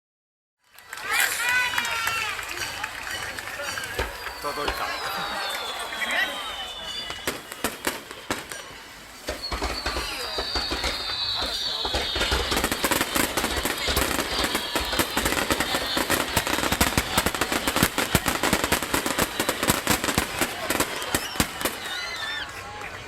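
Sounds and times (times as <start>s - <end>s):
fireworks crackling and banging: 0.6s - 23.0s.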